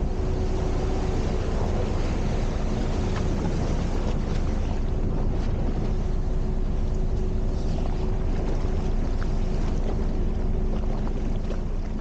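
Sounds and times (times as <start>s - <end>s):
faint ship hum: 0.0s - 12.0s
wind on microphone: 0.0s - 12.0s.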